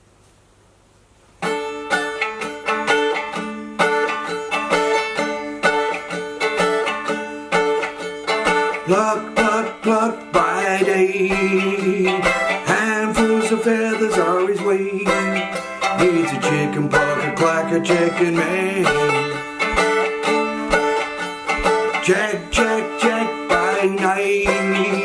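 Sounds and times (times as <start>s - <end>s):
plucked acoustic strings: 1.4s - 25.0s.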